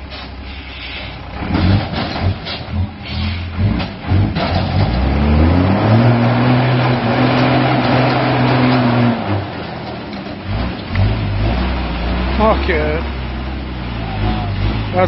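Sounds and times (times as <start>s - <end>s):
truck engine revving under load: 0.0s - 15.0s.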